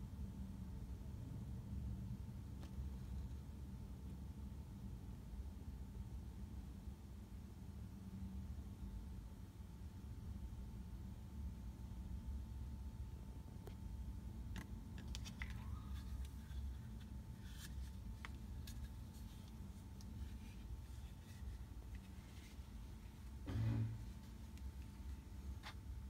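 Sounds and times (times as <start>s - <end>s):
faint steady whine: 0.0s - 26.0s.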